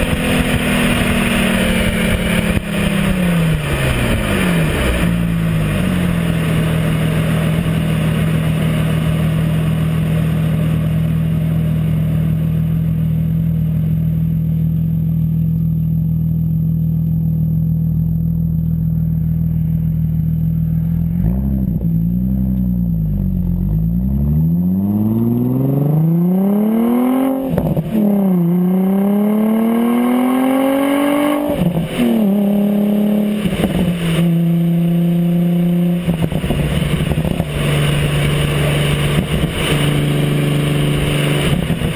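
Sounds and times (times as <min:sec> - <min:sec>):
car exhaust accelerating: 0:00.0 - 0:41.9.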